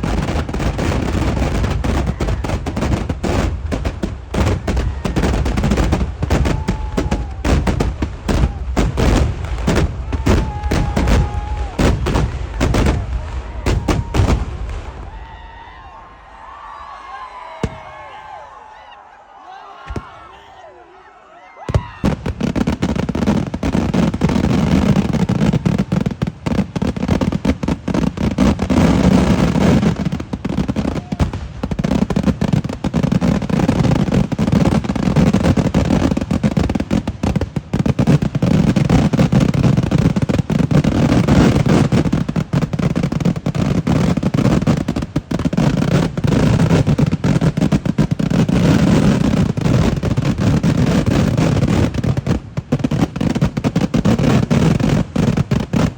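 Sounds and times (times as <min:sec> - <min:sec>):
rapid firecracker explosions: 0:00.0 - 0:16.0, 0:21.7 - 0:55.9.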